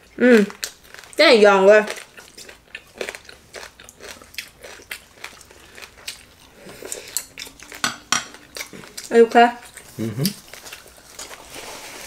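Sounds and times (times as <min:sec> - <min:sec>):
chewing crispy pork skin: 0:00.0 - 0:12.0.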